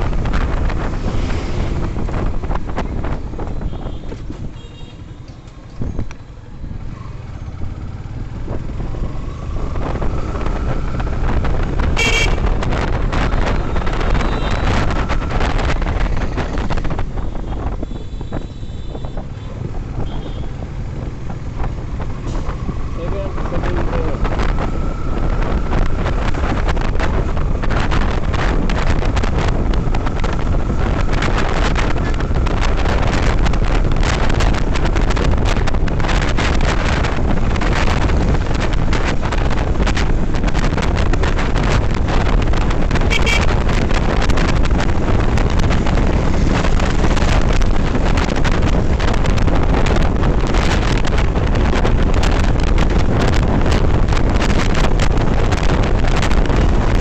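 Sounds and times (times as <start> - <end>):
wind rush on microphone: 0.0 - 57.0
motorcycle engine running: 6.5 - 57.0.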